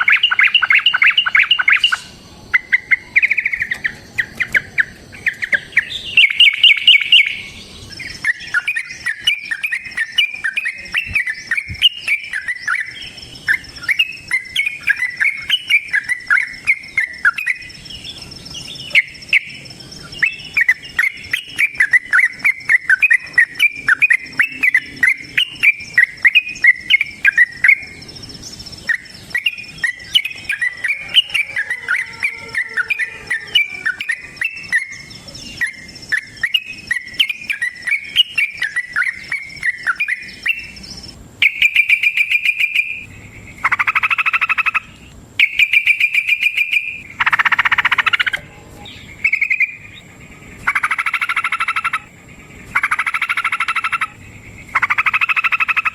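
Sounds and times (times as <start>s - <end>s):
bird singing chattering runs: 0.0s - 55.9s
thin high insect tone: 0.0s - 55.9s.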